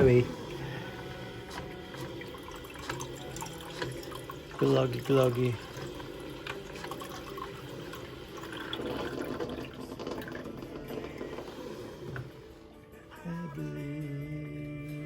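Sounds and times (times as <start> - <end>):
liquid pouring and trickling: 0.0 - 12.6.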